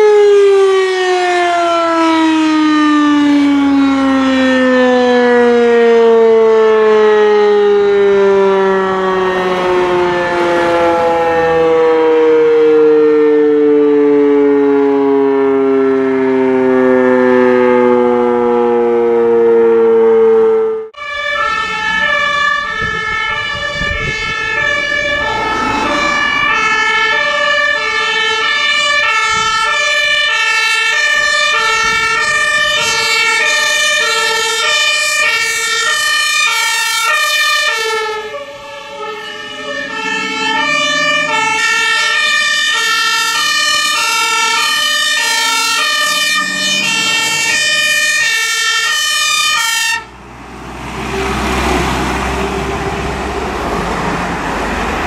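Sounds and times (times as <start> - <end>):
electric siren steady tone: 0.0 - 55.0
engine noise: 0.0 - 55.0
two-tone fire engine sirens: 0.0 - 55.0.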